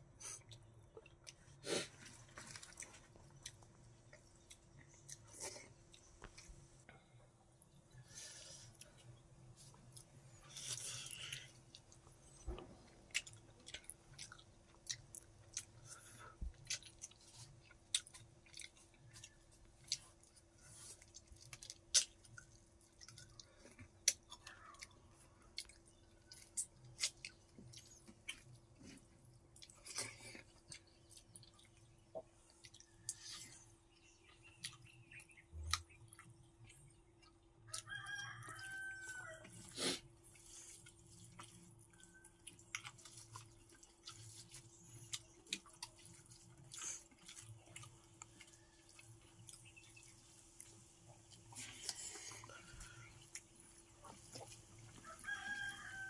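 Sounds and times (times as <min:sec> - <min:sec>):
chewing and lip smacking: 0:00.4 - 0:06.6, 0:08.7 - 0:56.0.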